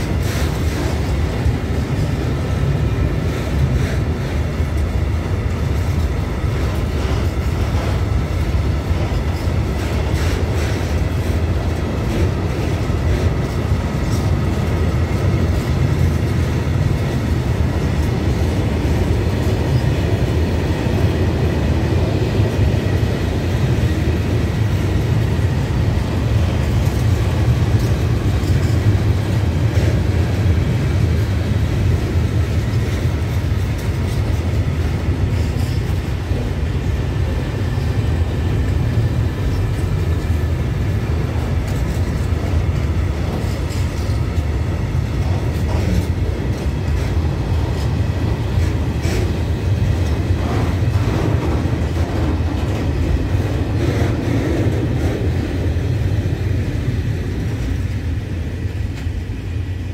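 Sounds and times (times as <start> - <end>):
wheels clicking over rail joints: 0.0 - 58.0
train wheels rumbling on rail: 0.0 - 59.9.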